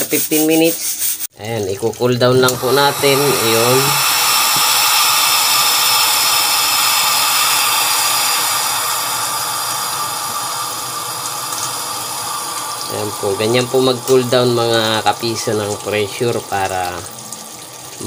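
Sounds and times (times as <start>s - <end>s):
tap water pouring on metal lid: 1.5s - 18.0s.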